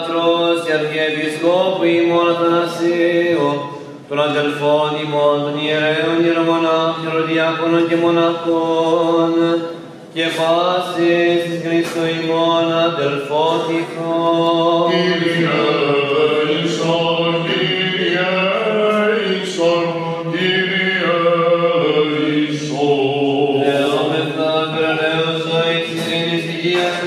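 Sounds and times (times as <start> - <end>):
man chanting: 0.0 - 27.0.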